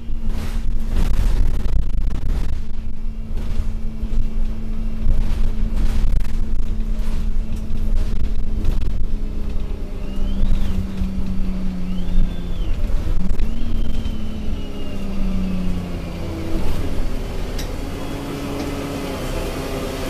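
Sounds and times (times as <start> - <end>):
high whine: 0.0 - 18.9
bus engine drone: 0.0 - 20.0.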